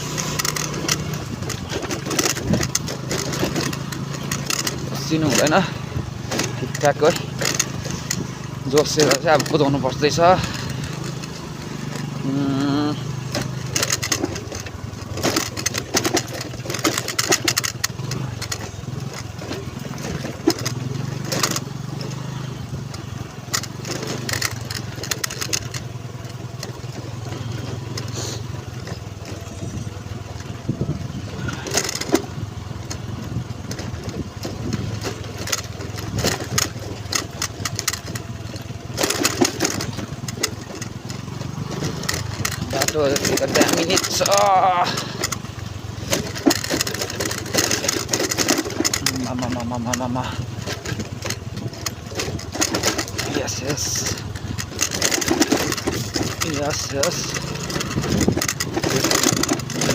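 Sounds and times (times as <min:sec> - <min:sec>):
knocks and rattles from bumps: 0:00.0 - 0:59.9
motorbike engine running: 0:00.0 - 0:59.9.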